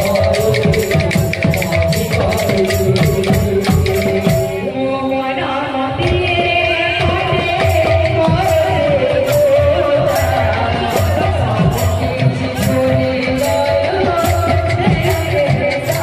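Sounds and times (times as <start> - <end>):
fast percussion beat: 0.0 - 4.7, 6.0 - 16.0.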